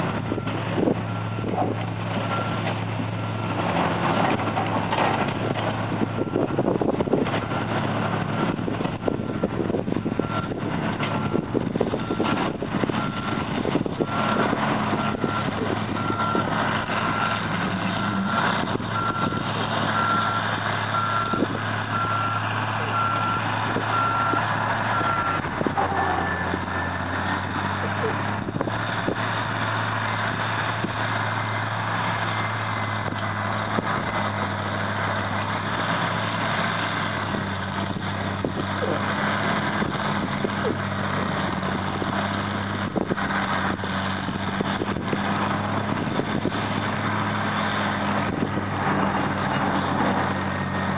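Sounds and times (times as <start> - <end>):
excavator diesel engines running: 0.0 - 50.9.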